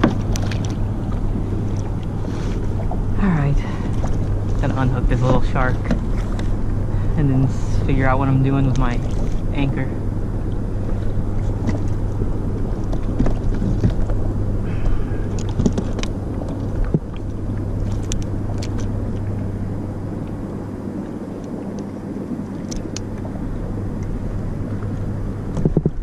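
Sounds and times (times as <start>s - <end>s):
motorboat engine droning: 0.0s - 26.0s.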